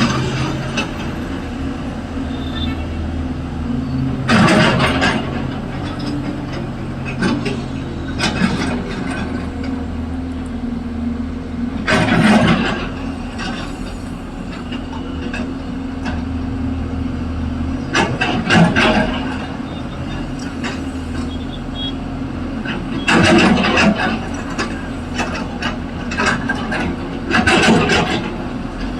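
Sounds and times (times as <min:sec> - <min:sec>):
clanking and scraping: 0:00.0 - 0:10.6, 0:11.8 - 0:16.2, 0:17.9 - 0:21.8, 0:22.6 - 0:28.9
excavator diesel engine running: 0:00.0 - 0:28.9.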